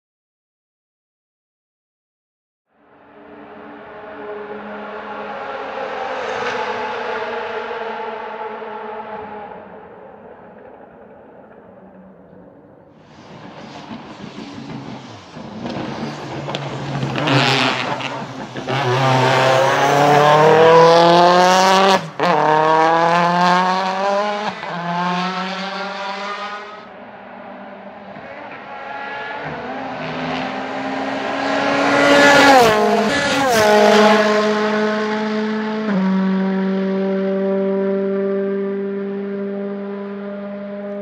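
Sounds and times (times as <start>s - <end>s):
race car engine accelerating: 3.1s - 41.0s.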